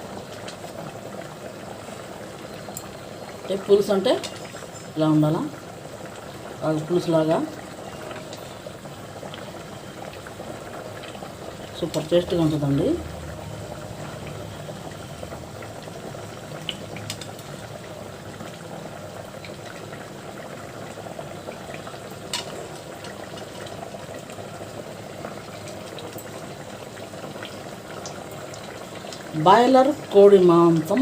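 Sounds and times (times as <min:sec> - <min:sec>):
boiling liquid bubbling: 0:00.0 - 0:31.0.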